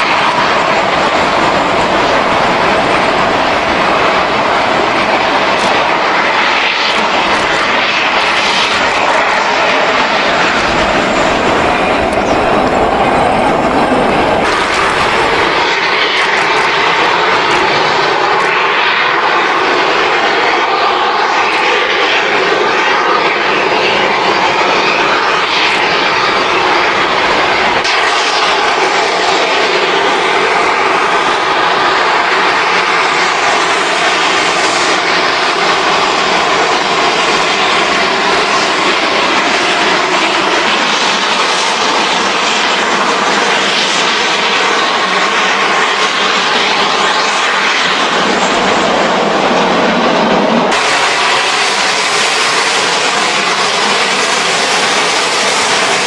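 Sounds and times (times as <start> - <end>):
steam train roaring: 0.0 - 56.0.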